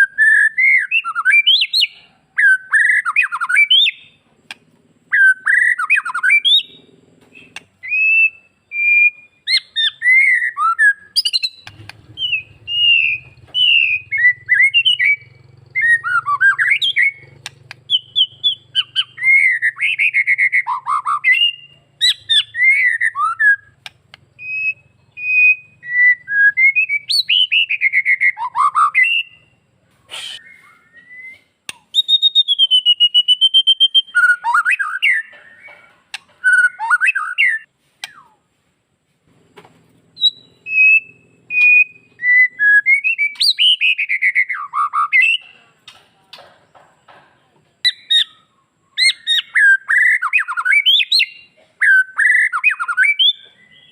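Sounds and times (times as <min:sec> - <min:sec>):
bird singing whistled phrases: 0:00.0 - 0:04.2, 0:05.1 - 0:35.8, 0:36.4 - 0:38.4, 0:40.2 - 0:45.5, 0:47.9 - 0:53.9
bird trill: 0:00.0 - 0:38.4, 0:40.0 - 0:47.2, 0:47.8 - 0:53.9.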